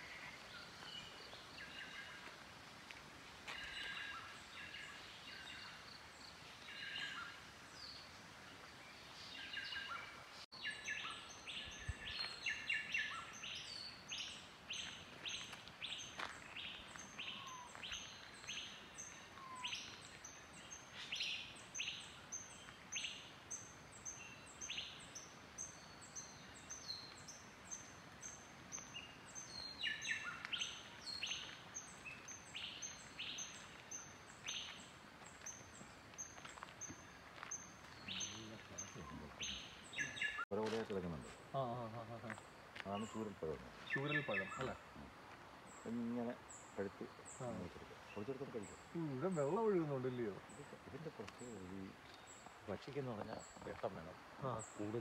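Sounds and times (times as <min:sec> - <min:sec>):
forest birds chirping and whistling: 0:00.0 - 0:55.0.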